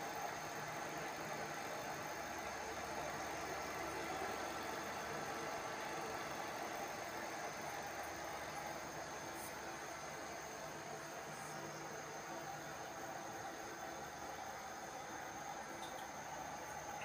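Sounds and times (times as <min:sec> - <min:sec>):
mechanical hum with hiss: 0:00.0 - 0:17.0.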